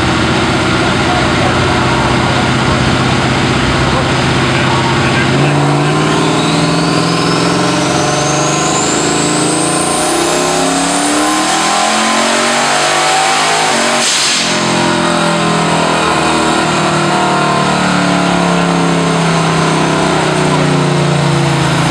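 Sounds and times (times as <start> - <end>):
engine running under load: 0.0 - 21.9
turbo whine: 0.0 - 21.9.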